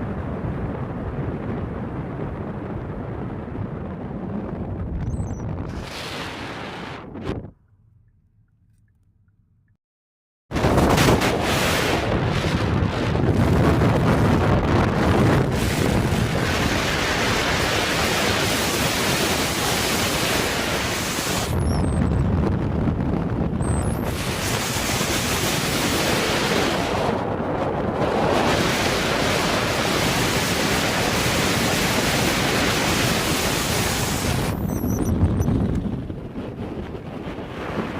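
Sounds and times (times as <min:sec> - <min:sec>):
storm wind buffeting microphone: 0:00.0 - 0:08.1, 0:10.5 - 0:37.9.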